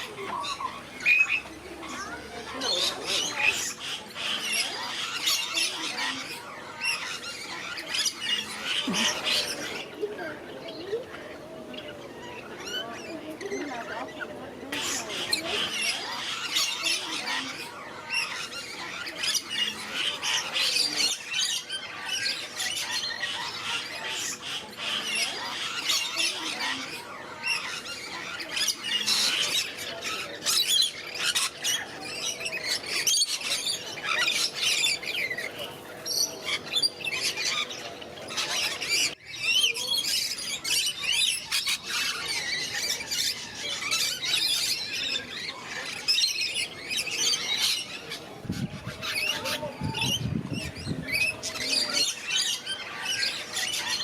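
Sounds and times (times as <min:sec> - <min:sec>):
parrots squawking: 0:00.0 - 0:54.0.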